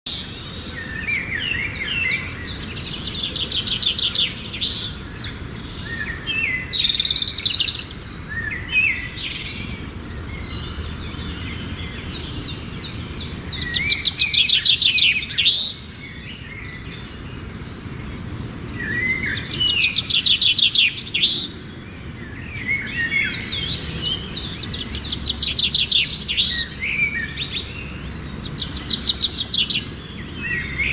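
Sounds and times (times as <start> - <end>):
budgerigars chattering and warbling: 0.2 - 30.9.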